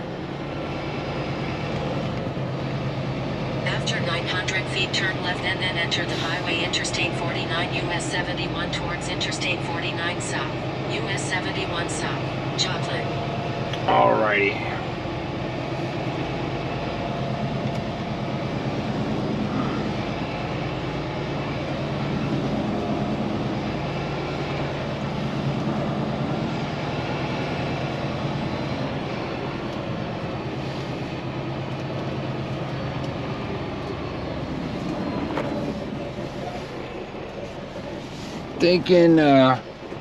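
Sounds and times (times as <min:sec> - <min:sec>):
truck diesel engine running: 0:00.0 - 0:40.0.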